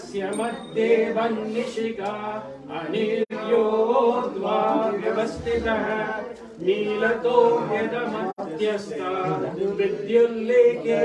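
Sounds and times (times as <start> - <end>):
men chanting mantras: 0.0 - 11.0.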